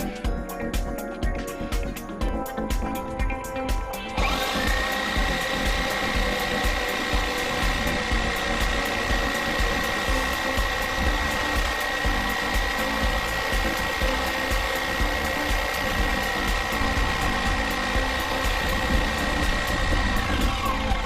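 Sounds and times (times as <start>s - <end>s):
power tool motor whine: 4.0s - 21.0s.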